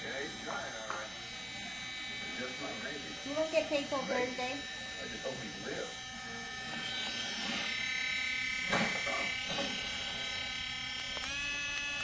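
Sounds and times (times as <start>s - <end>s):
rotary tool motor whining: 0.0s - 12.0s.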